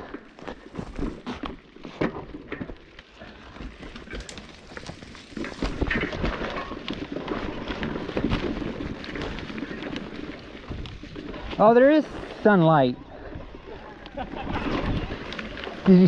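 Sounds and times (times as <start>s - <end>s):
bike rattling: 0.0s - 16.0s
tyres crunching over rocks: 0.0s - 16.0s.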